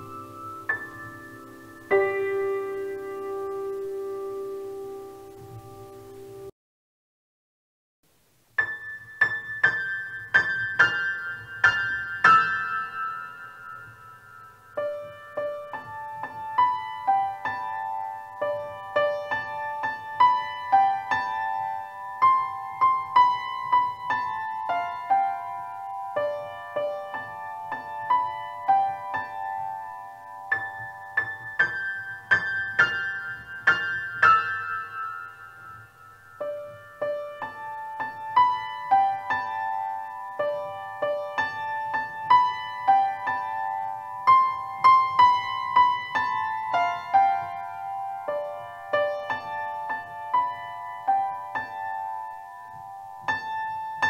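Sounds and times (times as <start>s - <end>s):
solo piano piece: 0.0s - 6.5s, 8.5s - 54.0s.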